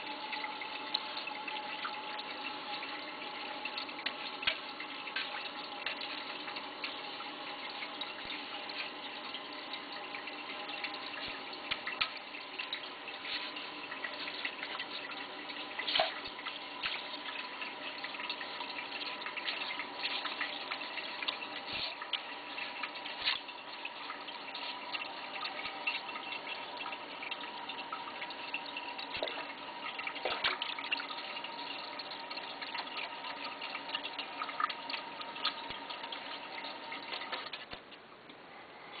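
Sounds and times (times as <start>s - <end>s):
water sloshing in toilet bowl: 0.0s - 38.0s.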